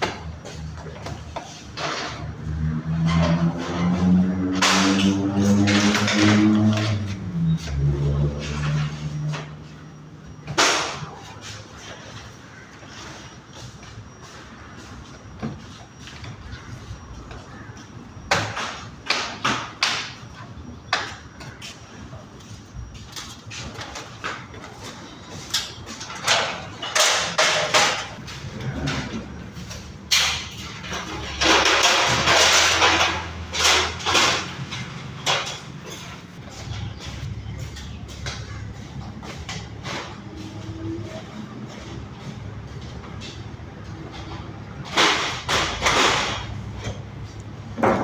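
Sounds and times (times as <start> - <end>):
knocks and clatter of tools: 0.0 - 9.7, 10.4 - 13.2, 17.1 - 21.8, 22.4 - 48.0.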